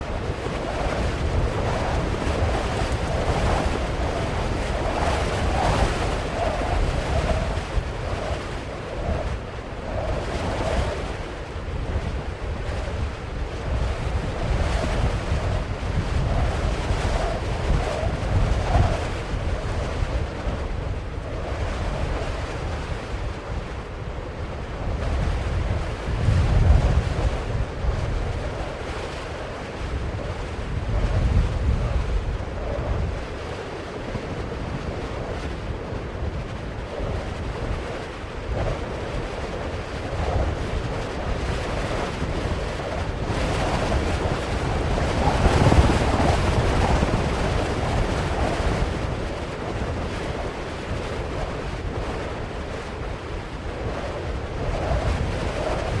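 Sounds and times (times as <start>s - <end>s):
continuous rushing noise: 0.0s - 56.0s
gusty low rumble: 0.0s - 56.0s.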